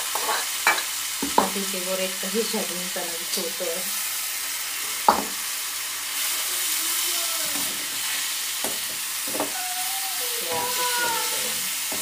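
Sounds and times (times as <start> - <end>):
radish sizzling in a wok: 0.0 - 12.0.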